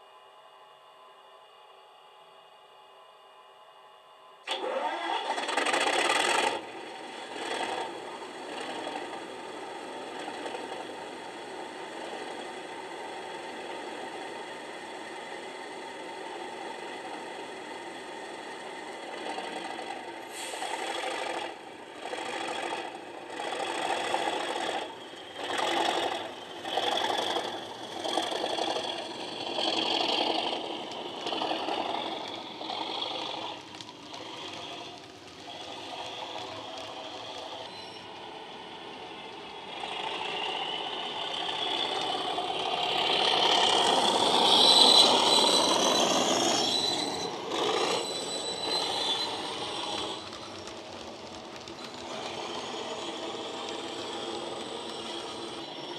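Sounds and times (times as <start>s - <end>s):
model diesel engine sound from speaker: 4.4s - 55.9s.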